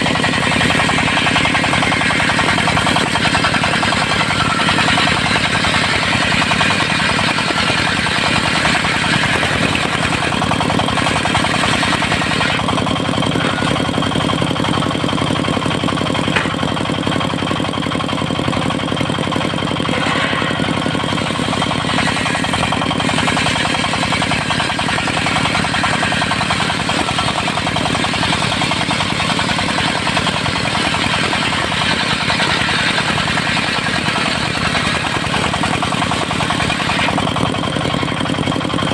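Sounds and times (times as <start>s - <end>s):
sawmill diesel engine running: 0.0s - 38.9s.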